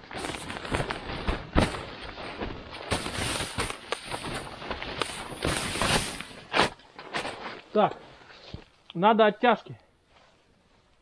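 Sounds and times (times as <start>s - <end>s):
tent rustling: 0.0s - 8.8s.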